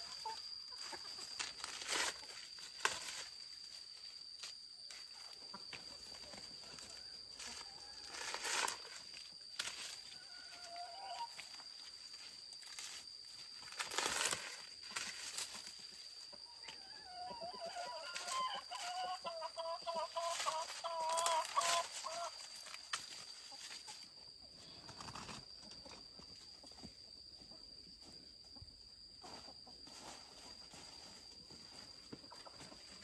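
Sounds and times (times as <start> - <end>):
chickens clucking: 0.0 - 3.2, 5.1 - 12.2, 13.9 - 27.7, 28.6 - 33.0.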